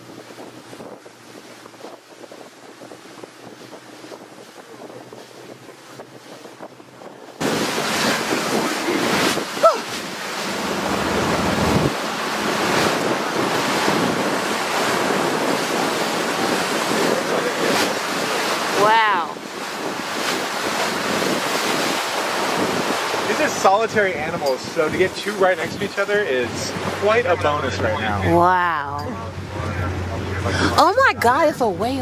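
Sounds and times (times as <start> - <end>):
sea water rushing: 0.0 - 32.0
wind buffeting microphone: 0.0 - 32.0.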